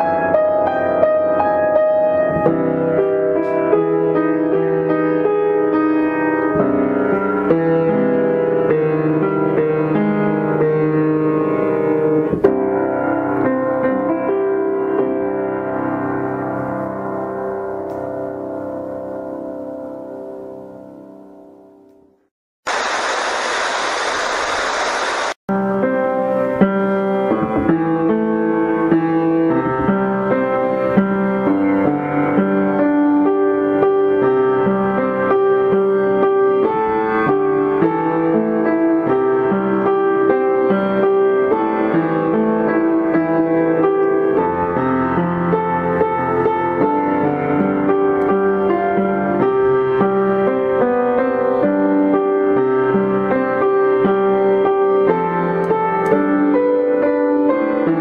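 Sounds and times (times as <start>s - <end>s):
instrumental piano music: 0.0s - 22.3s, 25.5s - 58.0s.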